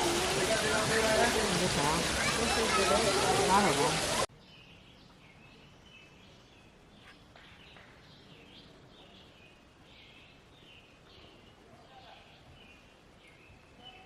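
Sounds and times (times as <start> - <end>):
outdoor ambience hiss: 0.0 - 14.0
faint birds chirping: 2.1 - 14.0.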